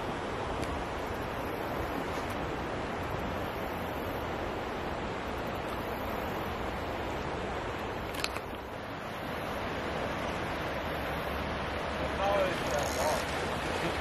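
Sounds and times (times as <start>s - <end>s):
river flowing over stones: 0.0s - 14.0s.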